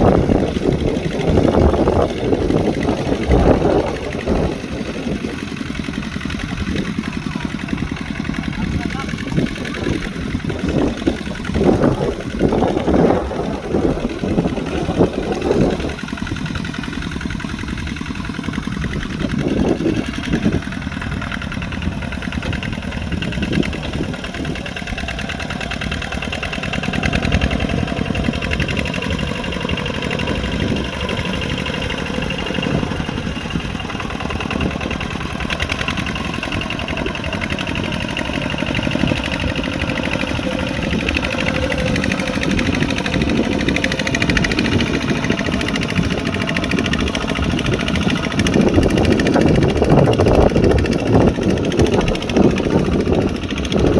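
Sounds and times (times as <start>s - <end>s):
diesel tractor engine running: 0.0s - 53.9s.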